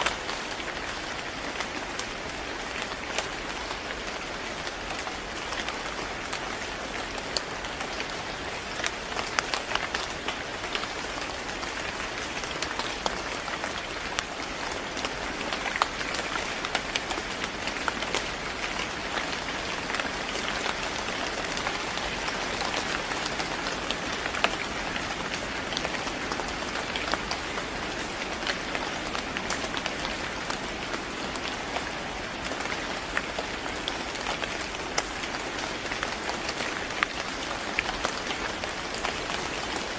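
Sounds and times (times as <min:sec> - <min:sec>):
rain on a hard surface: 0:00.0 - 0:39.9
raindrops pattering: 0:00.0 - 0:39.9.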